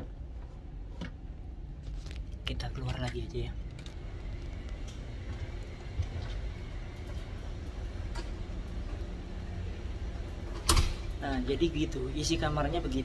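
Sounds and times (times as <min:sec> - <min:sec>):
ship interior rumble and hum: 0:00.0 - 0:13.0.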